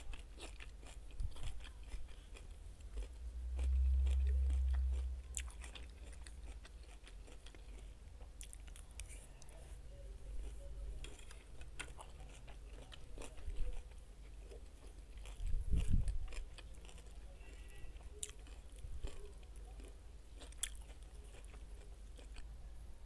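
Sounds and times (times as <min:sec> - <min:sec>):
close chewing of salad: 0:00.0 - 0:22.6.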